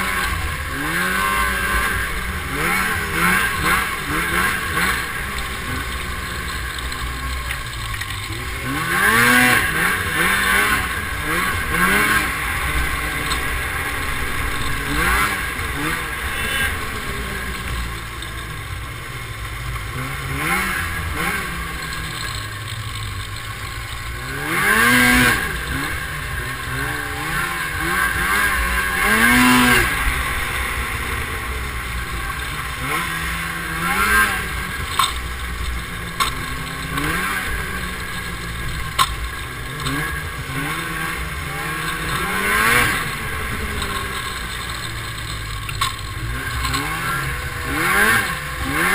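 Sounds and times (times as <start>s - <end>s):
snowmobile engine revving: 0.0s - 48.9s
track and wind noise: 0.0s - 48.9s.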